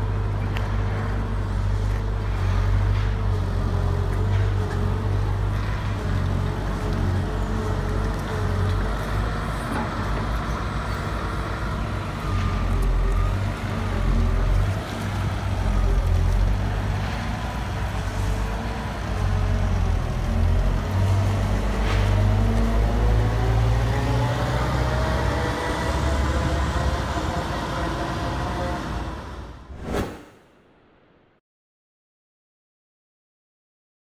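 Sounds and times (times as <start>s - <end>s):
excavator diesel engine under load: 0.0s - 29.7s
engine whine: 0.0s - 30.1s.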